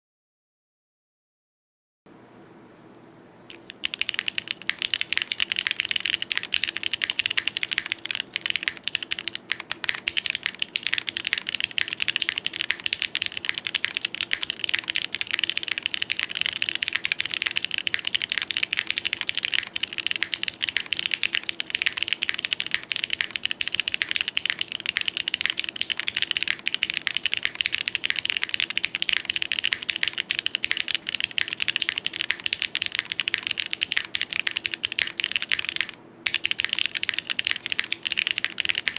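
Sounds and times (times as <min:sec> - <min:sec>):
fast mechanical keyboard typing: 0:03.5 - 0:38.9.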